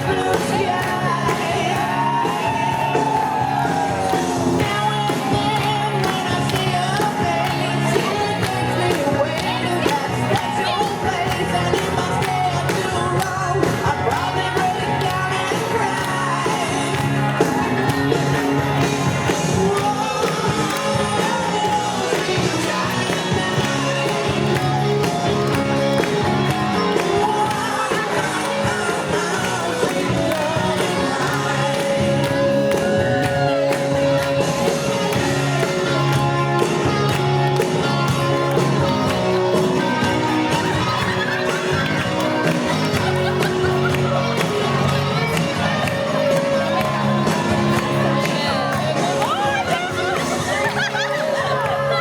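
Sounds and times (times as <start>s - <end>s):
person singing: 0.0s - 52.0s
rock band playing: 0.0s - 52.0s.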